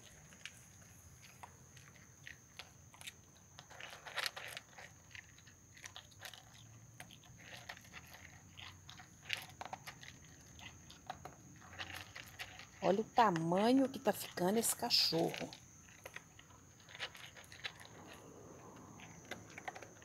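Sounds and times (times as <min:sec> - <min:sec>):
dog crunching kibble: 0:00.0 - 0:20.0.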